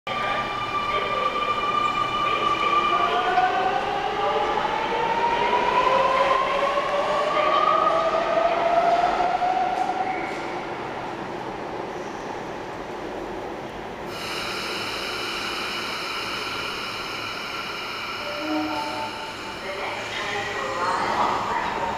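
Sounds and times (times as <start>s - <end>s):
rumble of train cars: 0.1s - 21.9s.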